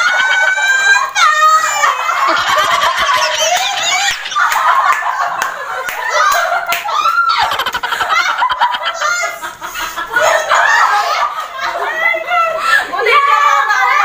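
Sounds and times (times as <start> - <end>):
women shrieking and laughing: 0.0 - 14.0.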